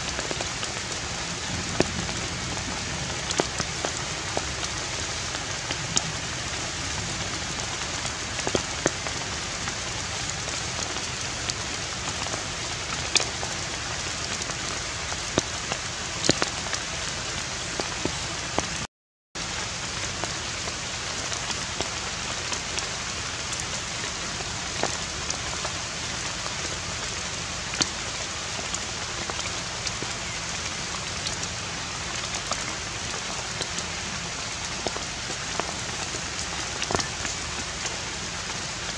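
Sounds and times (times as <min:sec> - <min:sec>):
rain-like hiss: 0:00.0 - 0:38.9.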